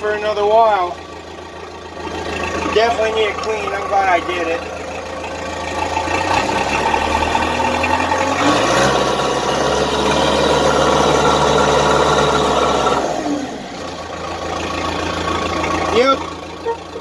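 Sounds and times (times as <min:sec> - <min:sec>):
backhoe engine idling: 0:00.0 - 0:17.0.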